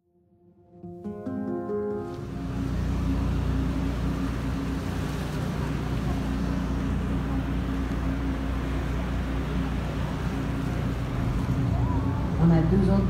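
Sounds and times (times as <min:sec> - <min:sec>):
wind: 0:01.1 - 0:13.0
boat engine droning: 0:01.3 - 0:13.0
water noise: 0:01.9 - 0:13.0.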